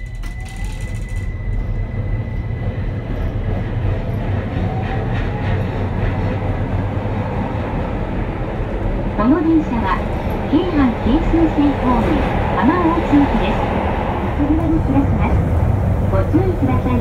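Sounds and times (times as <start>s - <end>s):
train motors and wheels rumbling: 0.0s - 17.0s.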